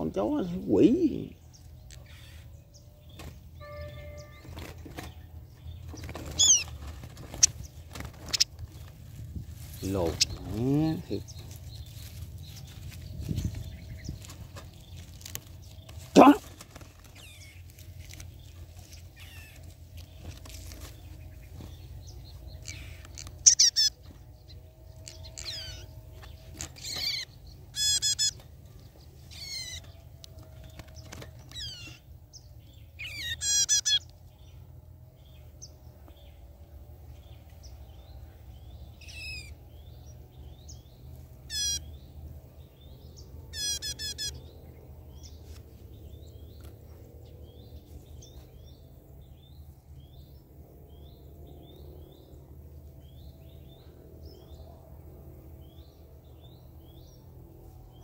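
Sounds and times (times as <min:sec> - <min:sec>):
songbirds warbling: 0:00.0 - 0:58.0.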